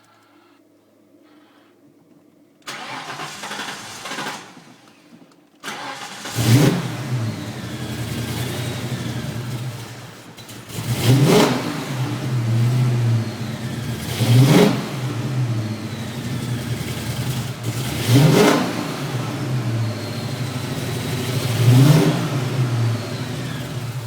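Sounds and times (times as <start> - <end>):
car engine starting and idling: 2.6 - 24.0.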